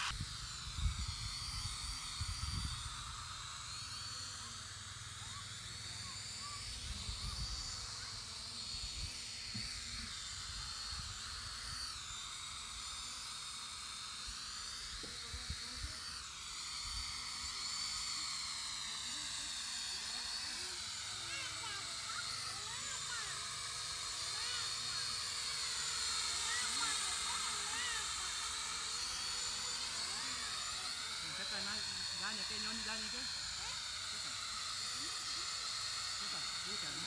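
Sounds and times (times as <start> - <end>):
drone propellers whining: 0.0 - 37.0.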